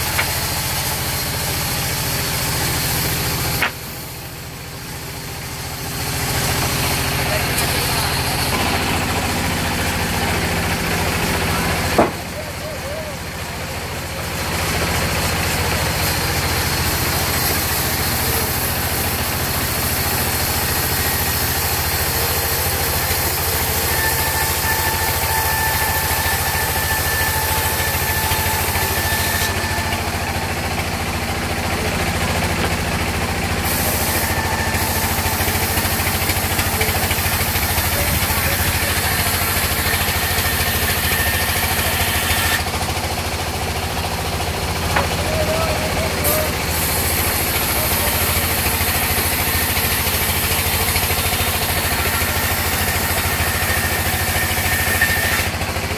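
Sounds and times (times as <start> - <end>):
band saw cutting wood: 0.0 - 55.9.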